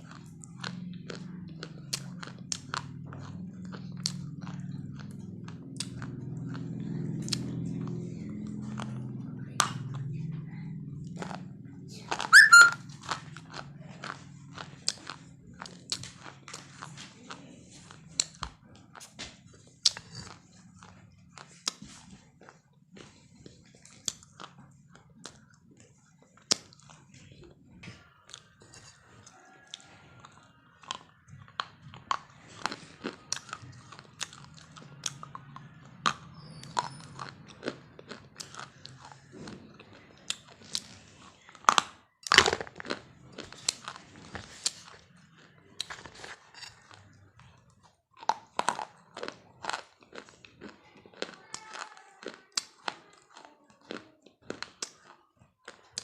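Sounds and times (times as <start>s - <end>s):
person chewing crunchy food: 0.0s - 7.9s, 11.1s - 56.0s.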